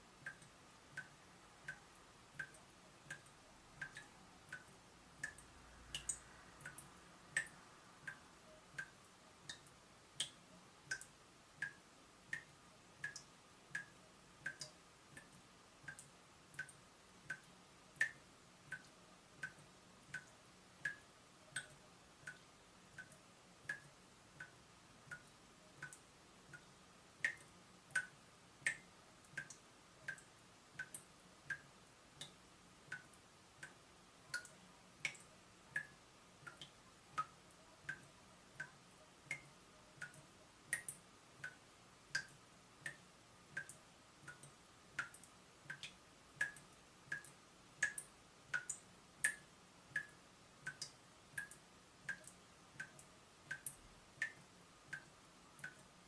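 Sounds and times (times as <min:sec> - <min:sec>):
water dripping from tap: 0:00.2 - 0:55.9.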